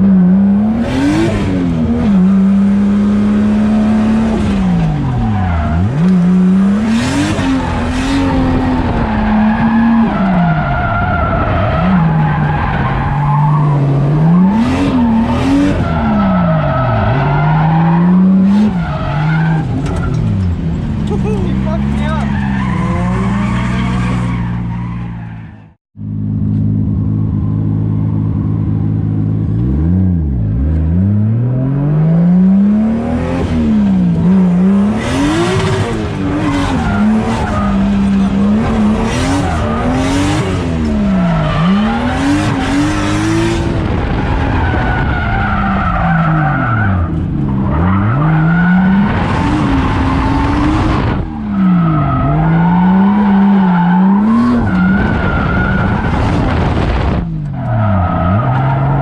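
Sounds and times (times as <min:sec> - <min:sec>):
car engine revving: 0:00.0 - 0:25.4, 0:26.1 - 0:59.0.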